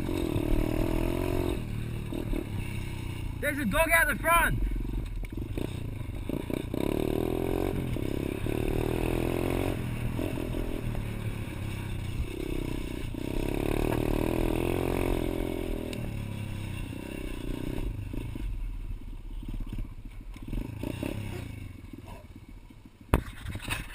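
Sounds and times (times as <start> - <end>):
motorbike engine revving: 0.0 - 22.5.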